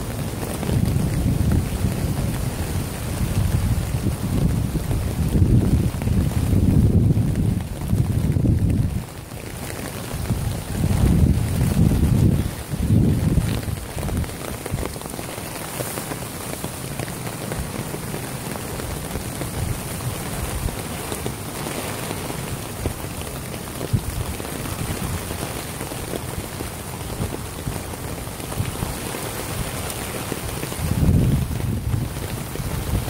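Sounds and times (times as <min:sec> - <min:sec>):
rain pattering on a tarp: 0:00.0 - 0:33.0.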